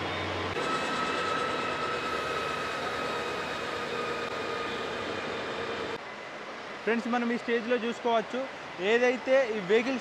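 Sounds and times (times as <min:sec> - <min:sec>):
rollers spinning with mechanical whine: 0:00.0 - 0:10.0.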